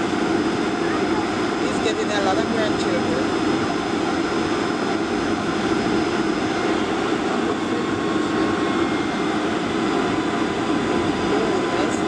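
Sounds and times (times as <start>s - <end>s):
jet engine cabin noise: 0.0s - 12.0s.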